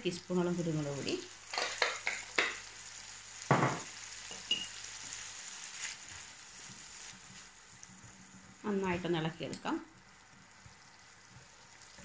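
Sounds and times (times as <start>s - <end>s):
shrimp sizzling in a pan: 0.0s - 12.0s.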